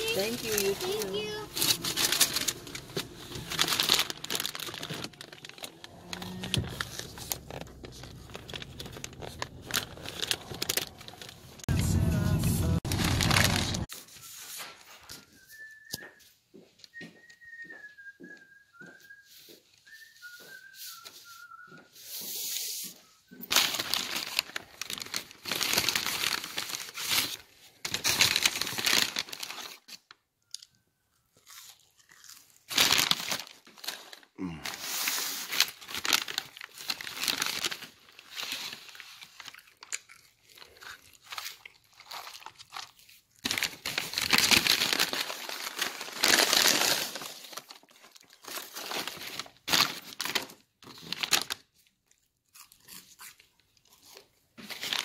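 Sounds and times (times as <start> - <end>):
paper wrappers crinkling and tearing: 0.0 - 15.3, 23.4 - 30.7, 31.3 - 55.0.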